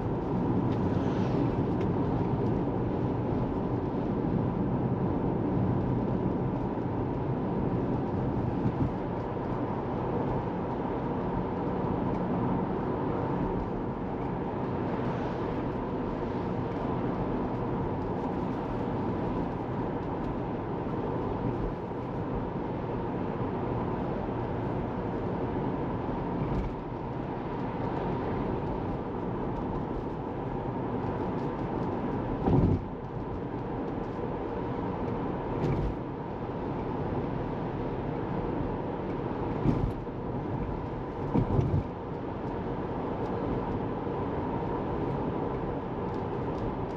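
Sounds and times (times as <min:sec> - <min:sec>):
road and tyre noise: 0:00.0 - 0:46.9.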